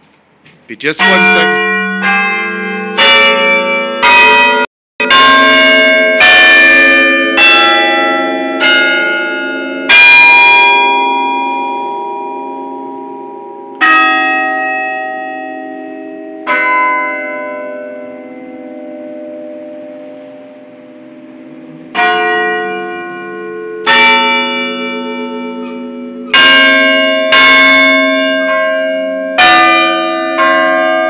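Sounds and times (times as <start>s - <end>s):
church bells ringing: 0.7s - 31.0s.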